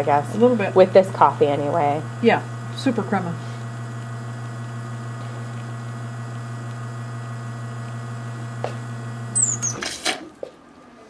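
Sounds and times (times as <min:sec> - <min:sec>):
espresso machine pump humming: 0:00.0 - 0:10.3.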